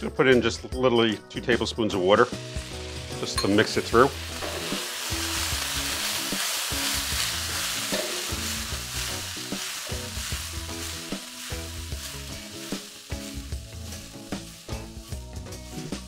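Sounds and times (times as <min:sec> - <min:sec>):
water sizzling in hot oil: 0:02.1 - 0:16.0.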